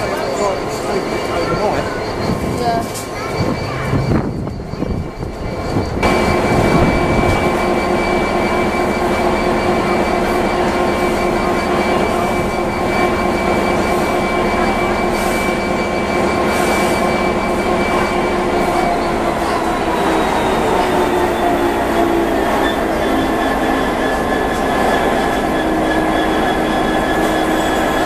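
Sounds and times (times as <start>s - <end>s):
locomotive engine hum: 0.0s - 28.0s.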